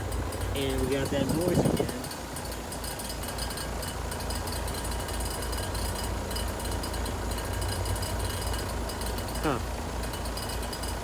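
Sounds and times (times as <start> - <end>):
compressor pulsing hum: 0.0 - 11.0.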